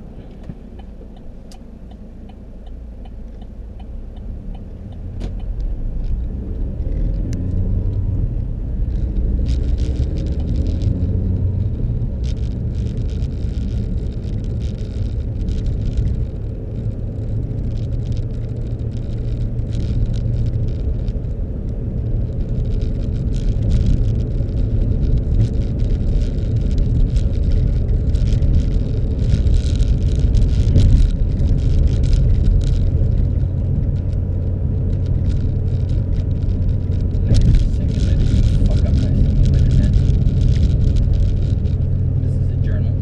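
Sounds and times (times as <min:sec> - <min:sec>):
car engine and road rumble: 0:00.0 - 0:43.0
light clicks and rattles: 0:00.3 - 0:43.0.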